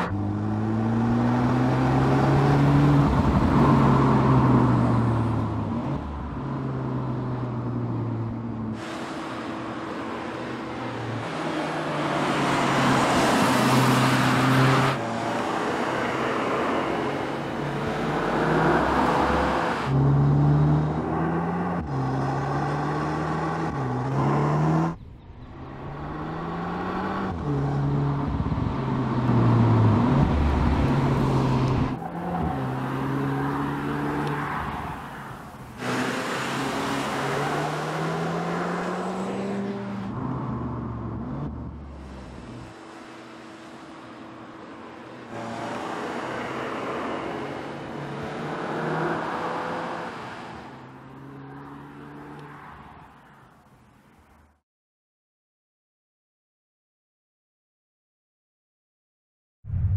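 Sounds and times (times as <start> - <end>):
car engine accelerating: 0.0 - 34.6, 35.7 - 52.6.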